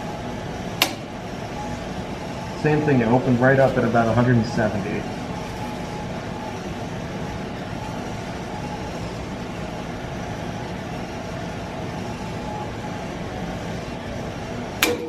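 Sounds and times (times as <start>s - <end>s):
testing machine humming and hissing: 0.0s - 15.0s.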